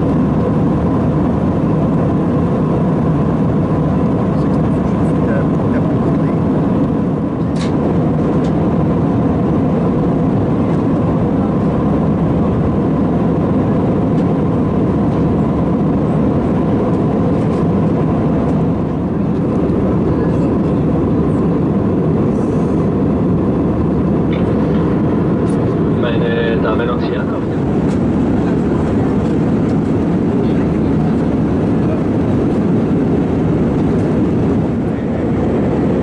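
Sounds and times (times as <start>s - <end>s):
jet engines and rushing airflow: 0.0s - 36.0s.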